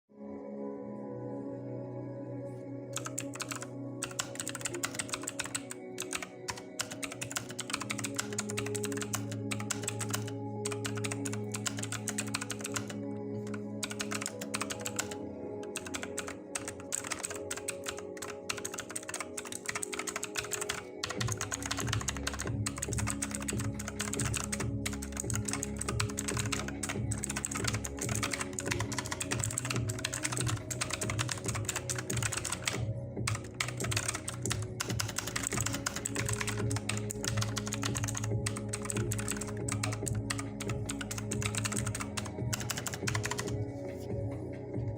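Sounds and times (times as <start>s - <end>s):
mechanical keyboard typing: 3.0s - 43.6s
background music with beat: 3.0s - 44.9s.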